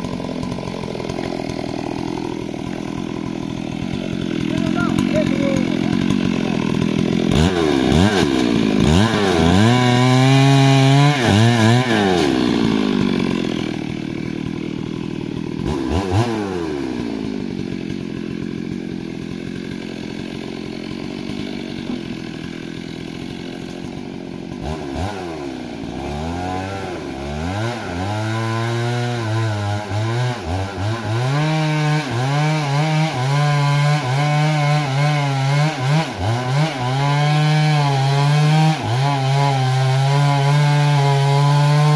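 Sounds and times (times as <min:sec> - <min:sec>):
chainsaw cutting timber: 0:00.0 - 0:41.9.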